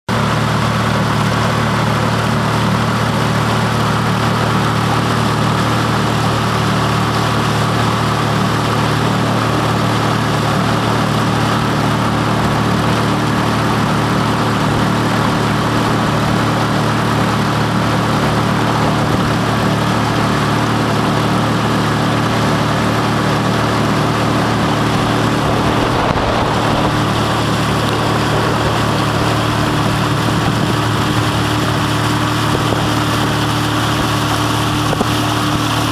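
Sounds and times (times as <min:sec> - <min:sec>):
boat engine running: 0:00.1 - 0:35.9.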